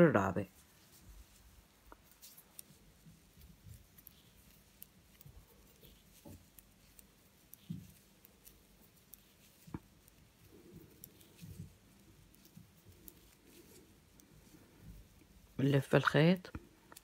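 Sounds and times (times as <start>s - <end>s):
knitting needles clicking: 0.6s - 17.0s.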